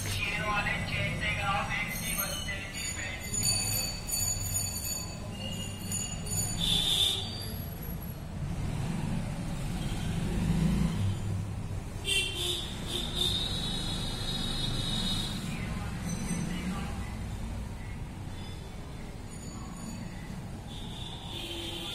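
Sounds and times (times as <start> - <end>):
low traffic rumble: 0.0 - 21.9.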